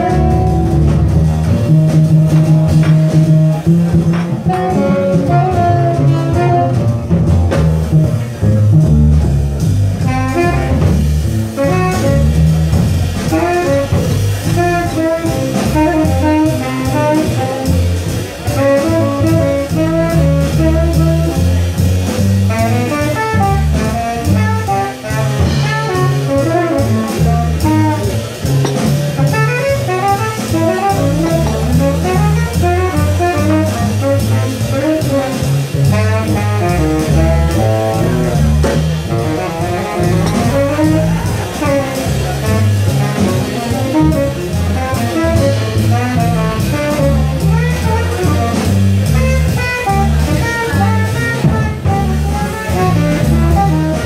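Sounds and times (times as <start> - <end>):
saxophone solo: 0.0 - 21.8, 22.4 - 28.5, 29.1 - 54.0
drum kit: 0.0 - 54.0
walking double bass: 0.0 - 54.0.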